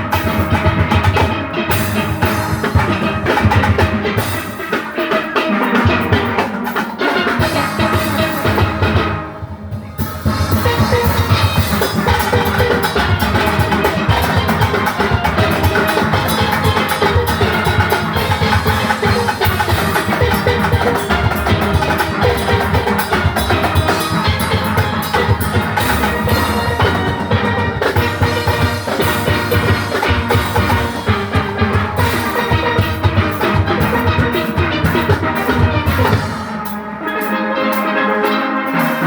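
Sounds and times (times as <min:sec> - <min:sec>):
steel band playing: 0:00.0 - 0:39.0.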